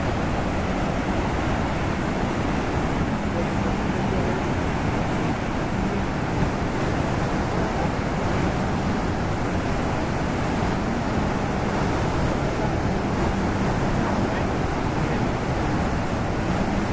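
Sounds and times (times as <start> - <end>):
rapids rushing over rocks: 0.0 - 16.9.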